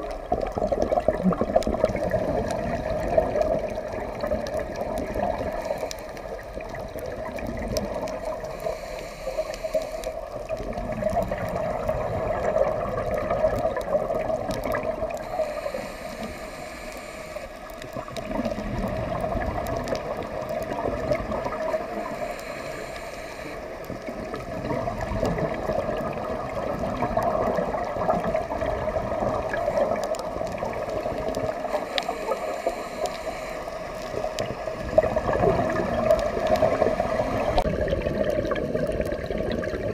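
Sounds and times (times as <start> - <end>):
underwater rush: 0.0 - 39.9.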